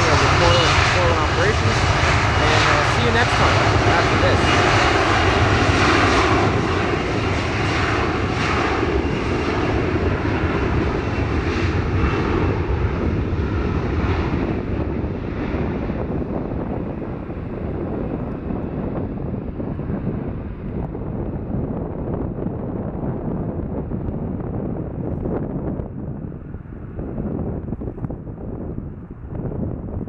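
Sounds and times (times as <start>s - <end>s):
jet engine noise: 0.0s - 30.0s.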